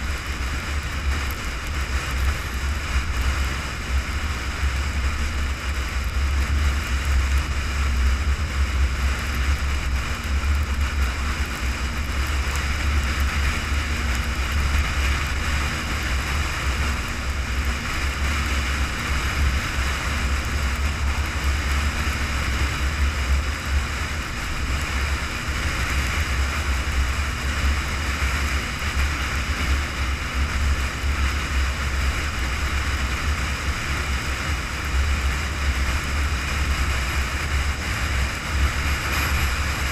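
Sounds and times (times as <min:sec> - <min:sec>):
vehicle road noise: 0:00.0 - 0:39.9
wind rush: 0:00.0 - 0:39.9.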